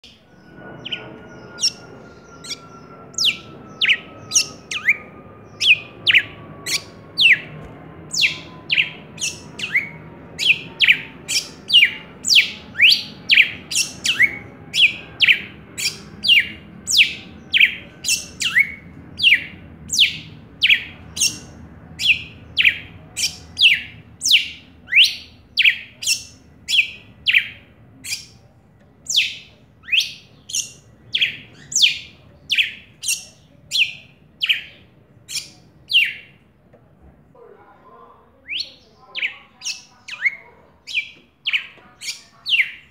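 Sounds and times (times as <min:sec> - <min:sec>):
bird singing high downward notes: 0:00.0 - 0:36.4, 0:38.4 - 0:42.9.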